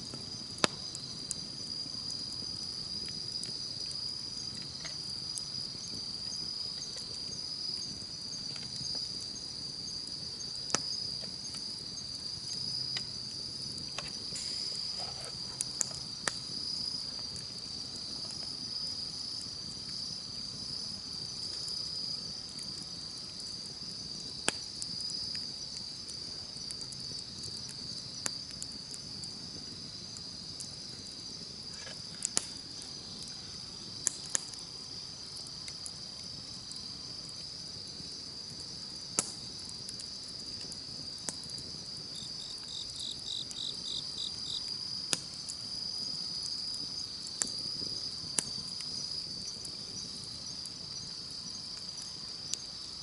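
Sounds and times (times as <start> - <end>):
campfire crackling: 0.0 - 53.0
crickets chirring: 0.0 - 53.0.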